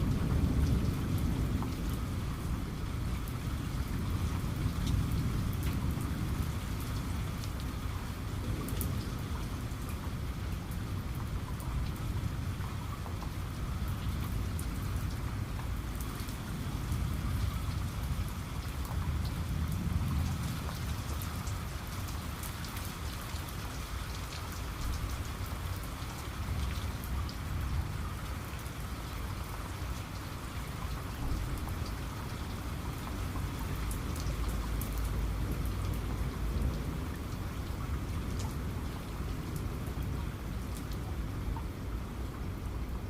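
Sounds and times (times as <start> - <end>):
rain drops ticking: 0.0 - 43.0.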